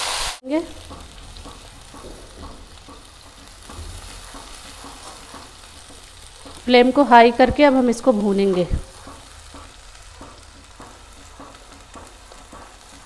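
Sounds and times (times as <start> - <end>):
paste sizzling in oil: 0.0 - 13.0
spatula scraping: 0.7 - 13.0.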